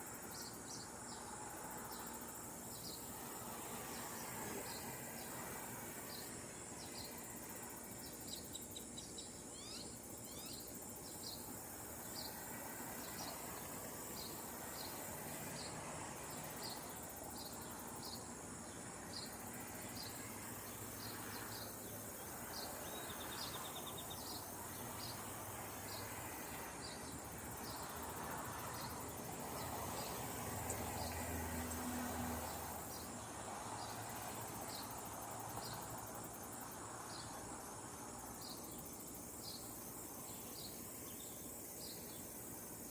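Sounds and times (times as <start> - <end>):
crickets chirping: 0.0 - 42.9
high insect trill: 0.0 - 42.9.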